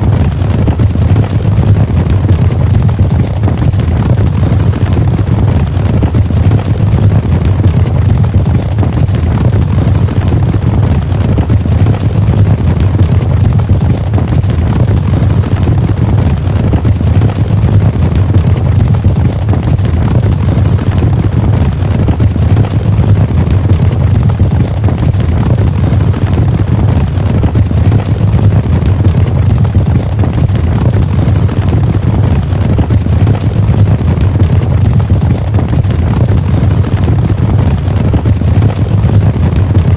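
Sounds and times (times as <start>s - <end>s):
horses galloping: 0.0s - 39.9s.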